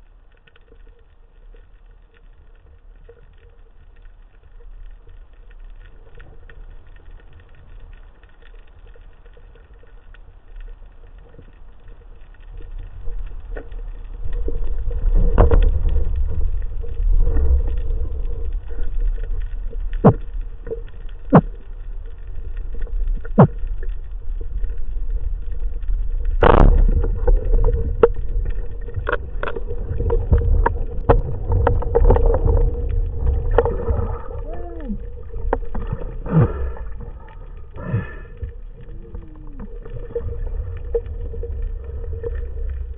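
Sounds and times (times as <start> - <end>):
low underwater rumbling: 0.0 - 42.9.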